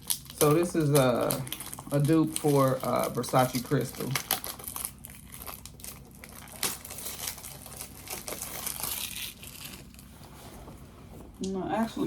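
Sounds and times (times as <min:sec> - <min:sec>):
packaging crinkling: 0:00.0 - 0:10.1.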